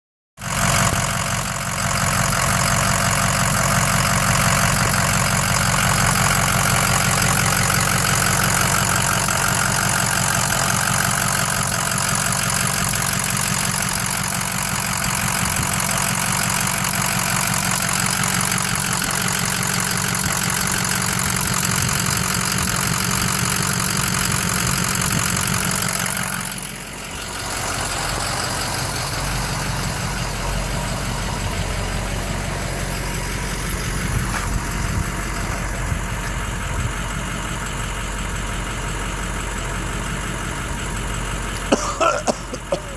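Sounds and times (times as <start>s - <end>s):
truck engine idling: 0.4s - 42.9s.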